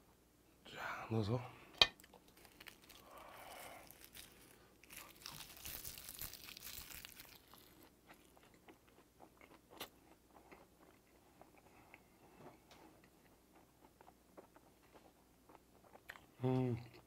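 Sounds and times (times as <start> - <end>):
faint crunching and chewing: 2.0 - 17.0.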